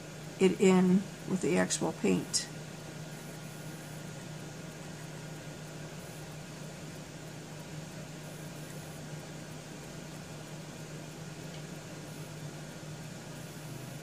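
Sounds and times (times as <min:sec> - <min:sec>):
room background hiss: 0:00.0 - 0:14.0
steady low hum: 0:00.0 - 0:14.0.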